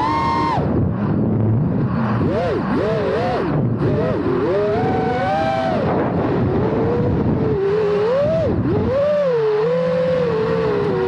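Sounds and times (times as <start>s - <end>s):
drone motors and propellers whining: 0.0s - 11.0s.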